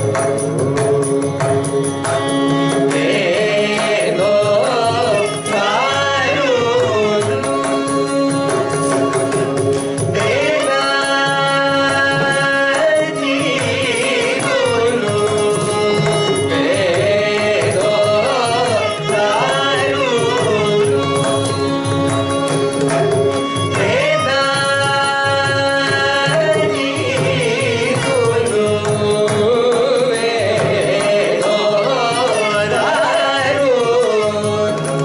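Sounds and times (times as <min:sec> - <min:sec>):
person singing: 0:02.5 - 0:35.0.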